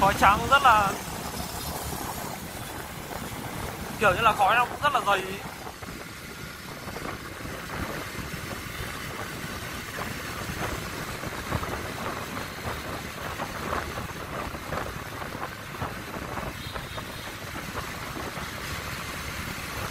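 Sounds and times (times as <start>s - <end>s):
road noise: 0.0s - 19.9s.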